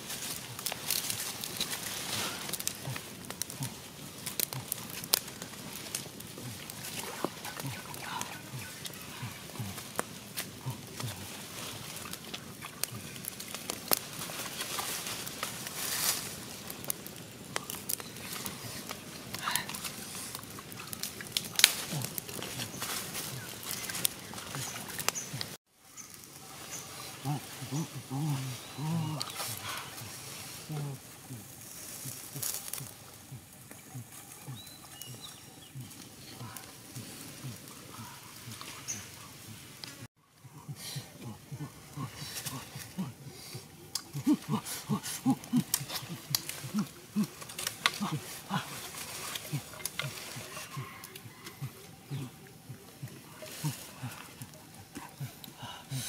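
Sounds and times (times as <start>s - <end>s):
dry leaves and sticks rustling: 0.0s - 56.0s
wood fire crackling: 0.0s - 56.0s.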